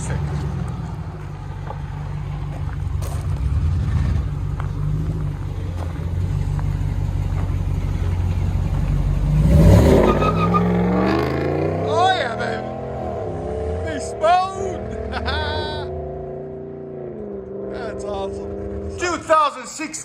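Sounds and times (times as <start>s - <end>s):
vee eight engine rumbling: 0.0s - 20.0s.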